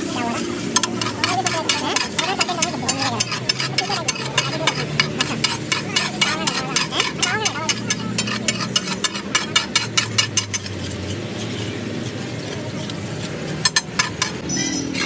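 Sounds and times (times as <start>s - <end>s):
food sizzling: 0.0s - 15.0s
metal spatulas clattering on griddle: 0.6s - 15.0s.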